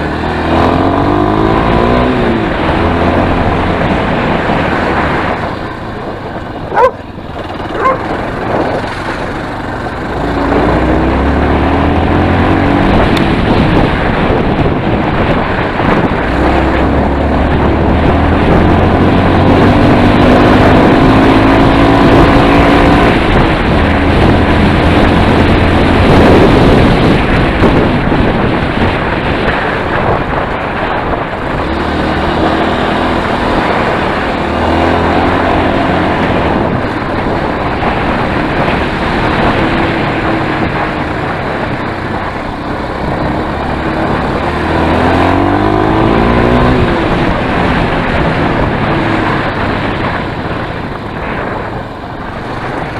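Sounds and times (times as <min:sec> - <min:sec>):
motorcycle engine revving: 0:00.0 - 0:52.9
steady rushing noise: 0:00.0 - 0:52.9.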